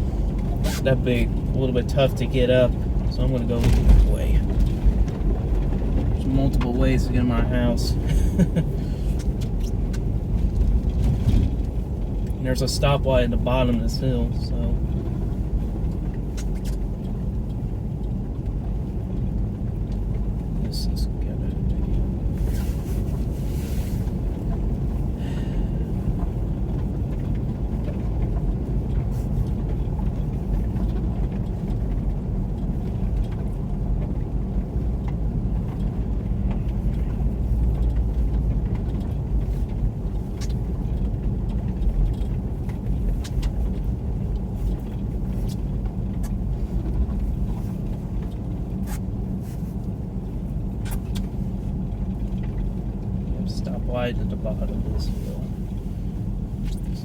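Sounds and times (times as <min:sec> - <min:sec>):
car driving on snow: 0:00.0 - 0:57.0.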